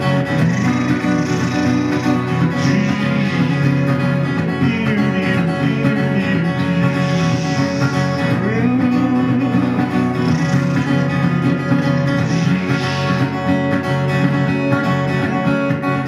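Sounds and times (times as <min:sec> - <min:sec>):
solo acoustic guitar: 0:00.0 - 0:16.0.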